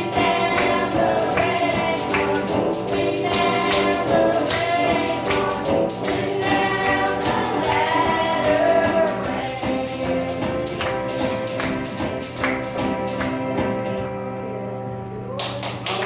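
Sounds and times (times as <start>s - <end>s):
children's choir singing gospel: 0.0s - 13.4s
tambourine beat: 0.0s - 13.6s.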